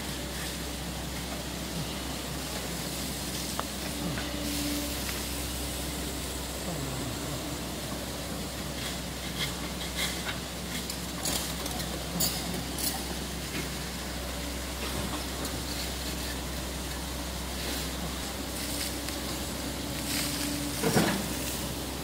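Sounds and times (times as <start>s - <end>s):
excavator engine running: 0.0s - 22.0s
steady hiss: 0.0s - 22.0s.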